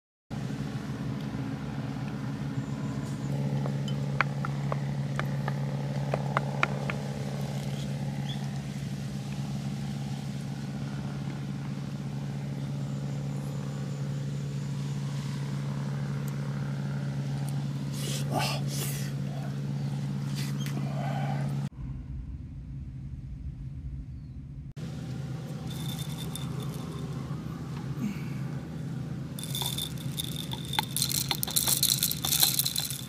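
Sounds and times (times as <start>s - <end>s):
low machine hum: 0.3s - 33.0s.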